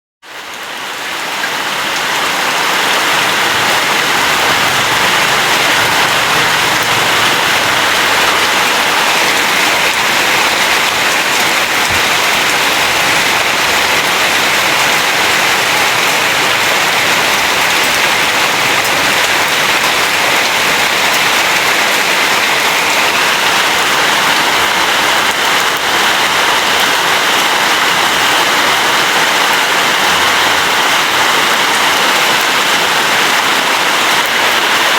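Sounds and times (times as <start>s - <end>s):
rain falling on leaves: 0.2s - 34.9s.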